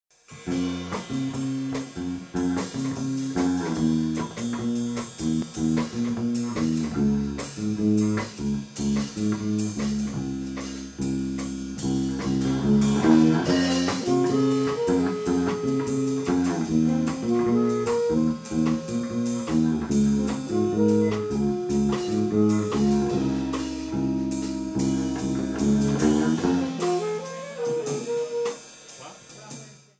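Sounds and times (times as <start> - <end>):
blues jazz guitar instrumental: 0.3 - 29.6.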